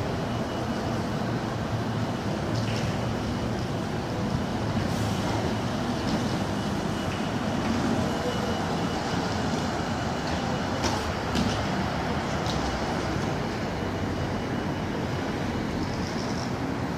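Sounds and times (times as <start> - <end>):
bus driving past: 0.0 - 16.9
city traffic noise: 0.0 - 16.9.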